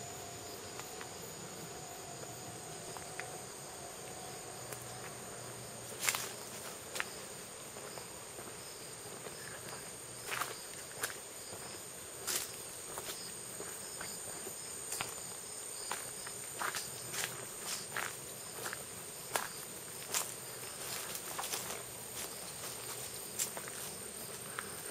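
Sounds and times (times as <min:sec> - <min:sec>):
insects chirring: 0:00.0 - 0:24.9
footsteps on paved path: 0:00.6 - 0:24.9.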